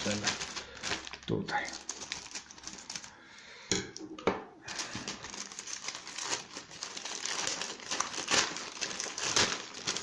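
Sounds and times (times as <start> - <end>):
plastic bag crinkling: 0.0 - 3.4, 4.6 - 10.0.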